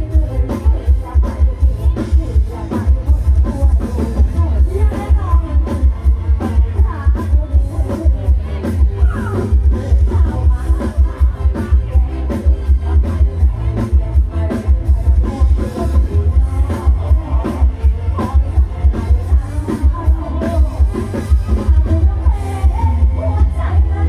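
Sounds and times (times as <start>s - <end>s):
heavy pulsing bass beat: 0.0s - 24.0s
live band playing dance music: 0.0s - 24.0s
woman singing: 0.0s - 24.0s.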